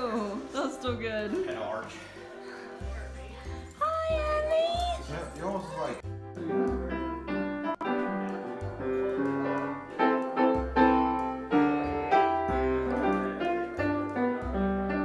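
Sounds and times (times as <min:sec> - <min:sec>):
piano tune: 0:01.6 - 0:15.0.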